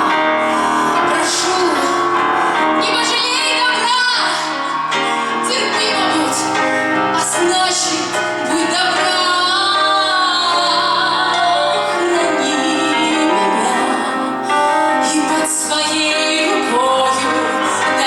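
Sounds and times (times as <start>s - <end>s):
woman singing with vibrato: 0.0s - 18.0s.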